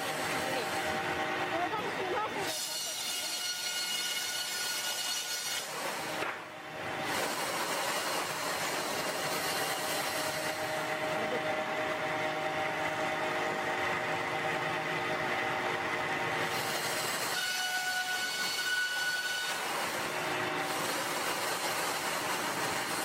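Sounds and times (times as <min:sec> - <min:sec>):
sawmill machinery whining: 0:00.0 - 0:23.0.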